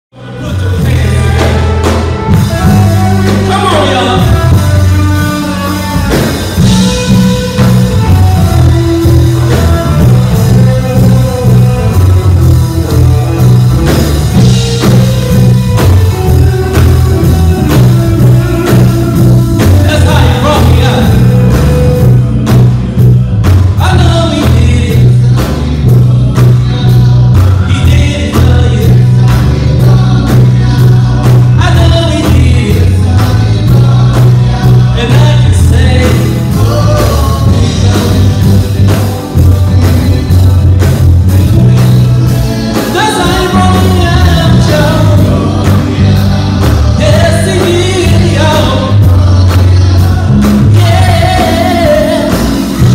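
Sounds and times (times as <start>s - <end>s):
electric bass guitar: 0.1s - 52.9s
electric guitar: 0.1s - 52.9s
keyboard: 0.1s - 52.9s
man singing lead: 0.1s - 52.9s
steady beat: 0.6s - 52.9s.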